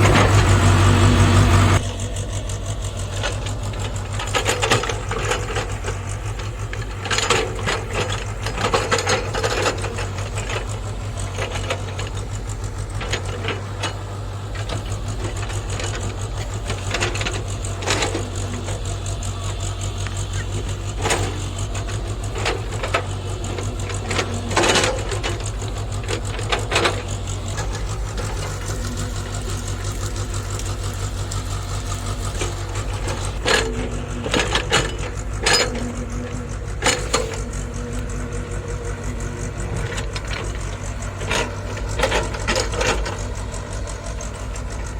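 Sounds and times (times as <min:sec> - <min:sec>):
clanks and scrapes of rocks: 0:00.0 - 0:44.9
excavator diesel engine running: 0:00.0 - 0:44.9.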